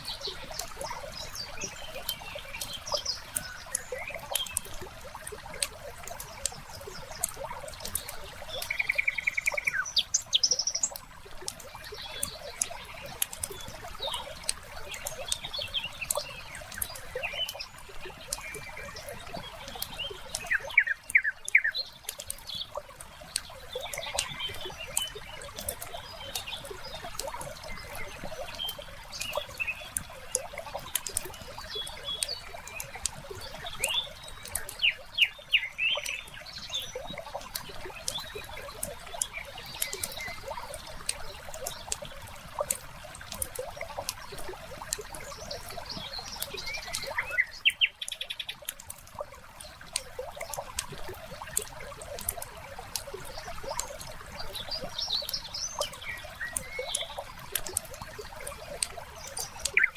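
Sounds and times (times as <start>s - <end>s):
birds chirping: 0.0s - 59.9s
water: 0.0s - 59.9s.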